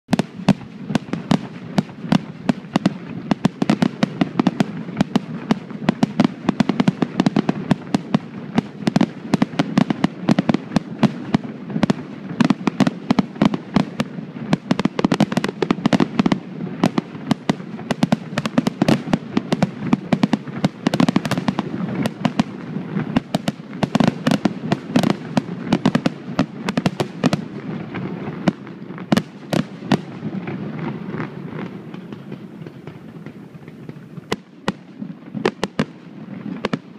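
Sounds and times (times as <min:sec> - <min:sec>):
fireworks bangs and crackles: 0:00.1 - 0:36.9.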